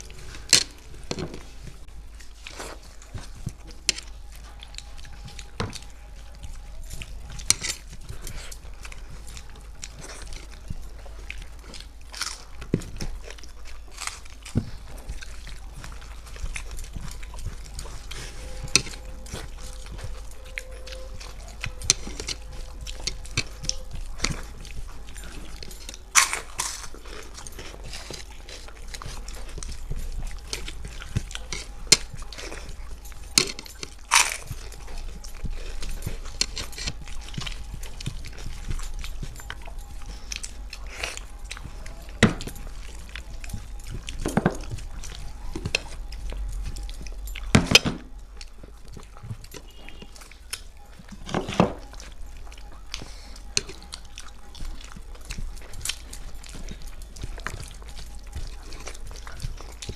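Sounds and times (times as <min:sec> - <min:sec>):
people chewing: 0:00.0 - 0:59.9.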